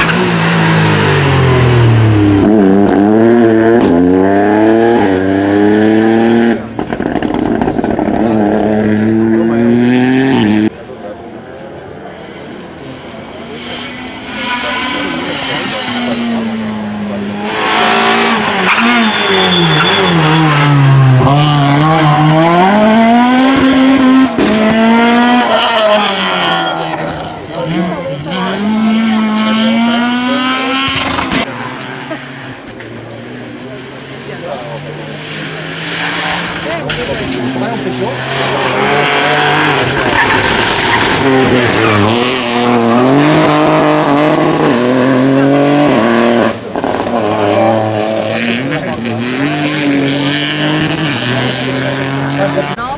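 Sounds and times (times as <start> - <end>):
rally car engine passing: 0.0 - 52.9.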